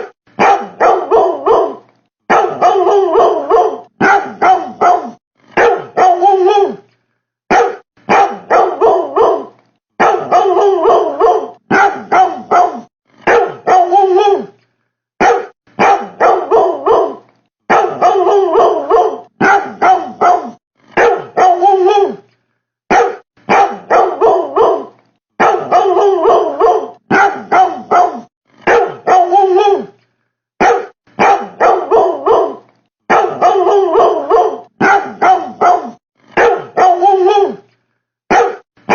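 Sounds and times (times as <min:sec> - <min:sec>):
dog-like barking: 0:00.0 - 0:06.8, 0:07.5 - 0:14.5, 0:15.2 - 0:22.2, 0:22.9 - 0:29.9, 0:30.6 - 0:37.6, 0:38.3 - 0:38.9.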